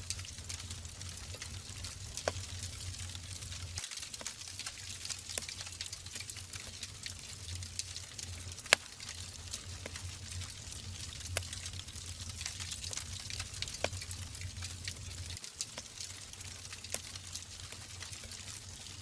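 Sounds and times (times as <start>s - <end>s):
logs crackling: 0.0s - 19.0s
low fire rumble: 0.0s - 19.0s.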